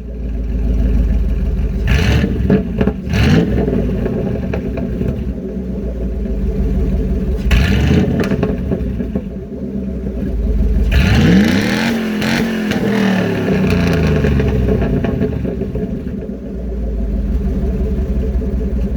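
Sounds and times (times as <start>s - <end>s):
engine idling and revving: 0.0s - 18.9s.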